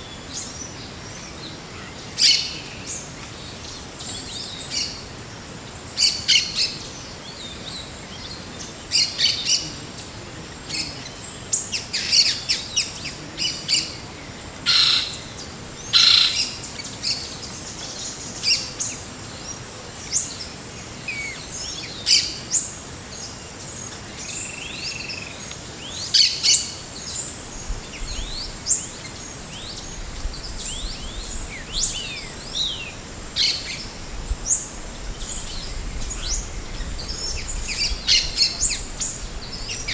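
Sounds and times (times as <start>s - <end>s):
forest birds chirping and whistling: 0.0s - 39.9s.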